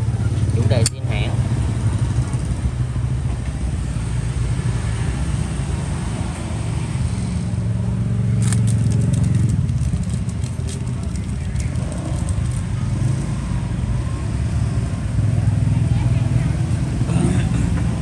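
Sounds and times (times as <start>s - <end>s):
motorbikes: 0.0s - 18.0s
street traffic rumble: 0.0s - 18.0s.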